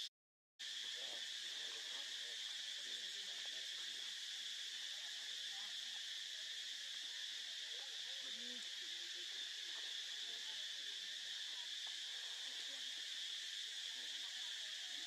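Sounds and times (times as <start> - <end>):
insect chorus drone: 0.6 - 15.0.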